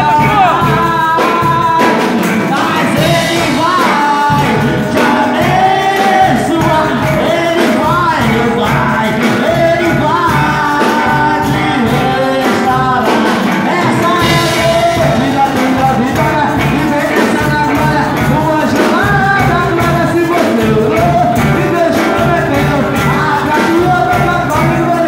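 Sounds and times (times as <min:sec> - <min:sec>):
instrumental accompaniment with beat: 0:00.0 - 0:25.0
man singing into a microphone: 0:00.0 - 0:25.0.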